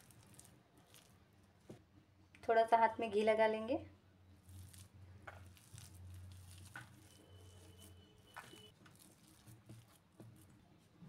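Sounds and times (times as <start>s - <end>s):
hand kneading soft mixture: 0.0s - 2.2s, 4.0s - 11.0s.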